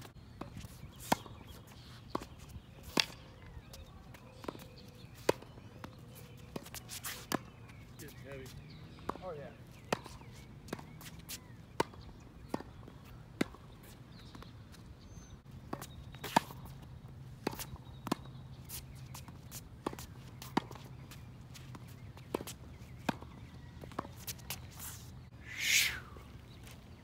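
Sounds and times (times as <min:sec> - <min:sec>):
tennis ball bouncing on court: 0:00.4 - 0:14.5, 0:15.7 - 0:16.8, 0:17.4 - 0:24.7.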